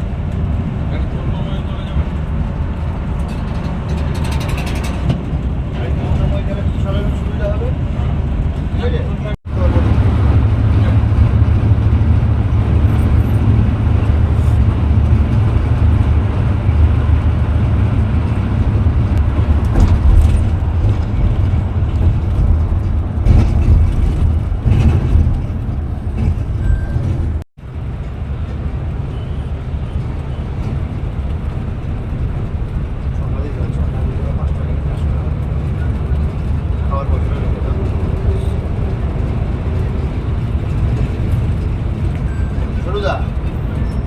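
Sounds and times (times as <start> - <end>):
moving bus rumble: 0.0 - 44.0.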